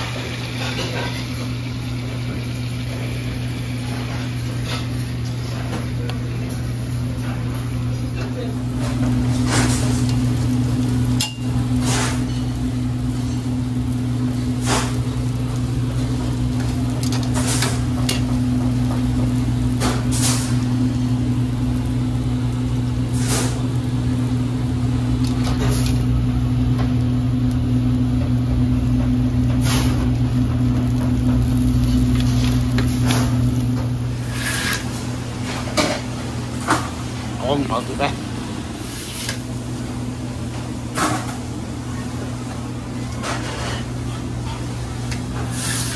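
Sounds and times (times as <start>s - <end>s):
low machine hum: 0.0s - 45.9s.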